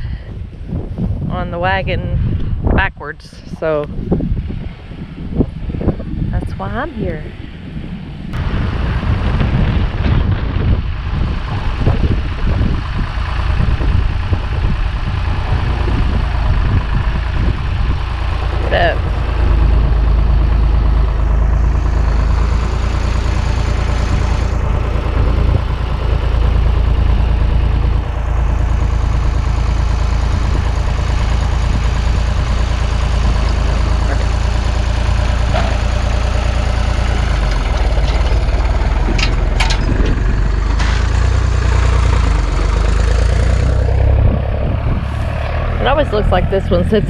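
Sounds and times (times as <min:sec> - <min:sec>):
tractor engine running under load: 0:08.3 - 0:47.0.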